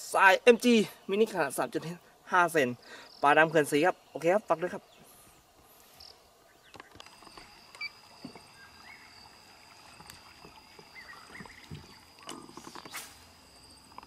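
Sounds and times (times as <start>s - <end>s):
faint high whine: 0.8s - 14.0s.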